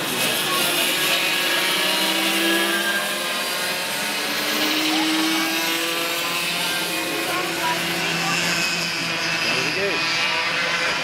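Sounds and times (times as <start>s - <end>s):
go-kart engines revving: 0.0s - 11.0s.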